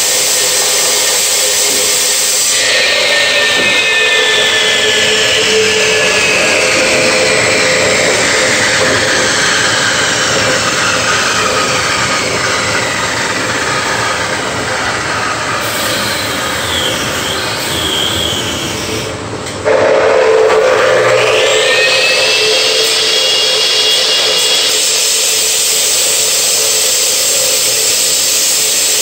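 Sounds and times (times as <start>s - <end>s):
concrete saw whine: 0.0s - 29.0s.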